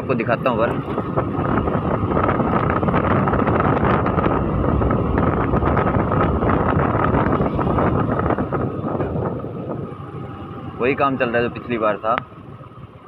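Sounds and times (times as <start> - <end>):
tyres on rough road: 0.0 - 13.0
wind buffeting microphone: 0.0 - 13.0
scooter engine running: 0.8 - 13.0.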